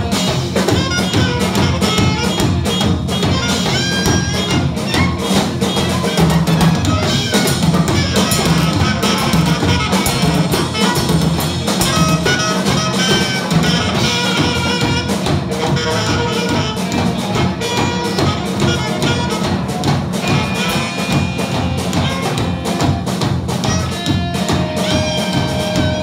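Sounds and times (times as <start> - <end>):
bass: 0.0 - 26.0
drum kit: 0.0 - 26.0
electric guitar: 0.0 - 26.0
saxophone: 0.0 - 26.0.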